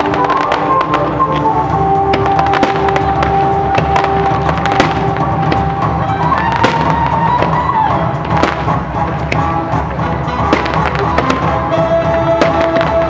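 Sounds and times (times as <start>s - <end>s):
fireworks bursting and crackling: 0.0s - 13.0s
music with long held notes: 0.0s - 13.0s.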